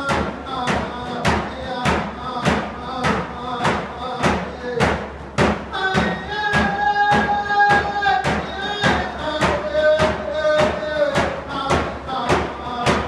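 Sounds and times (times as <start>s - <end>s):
hand drums beating: 0.0s - 13.0s.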